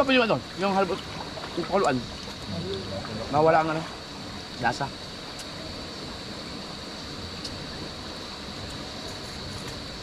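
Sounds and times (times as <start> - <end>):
flowing water rushing: 0.0 - 10.0.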